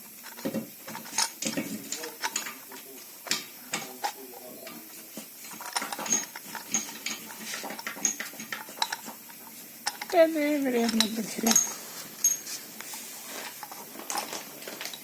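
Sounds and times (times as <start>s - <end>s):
metal tools clinking: 0.2s - 15.0s.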